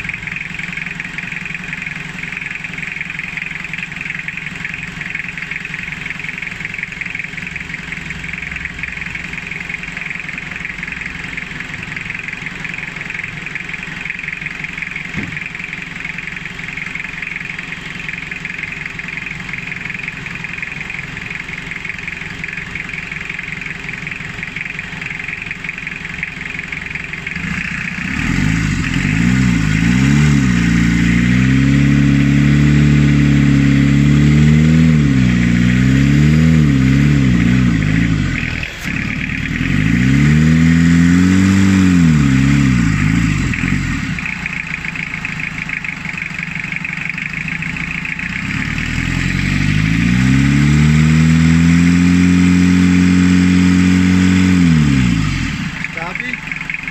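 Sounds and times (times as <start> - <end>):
diesel engine idling and revving: 0.0 - 56.9.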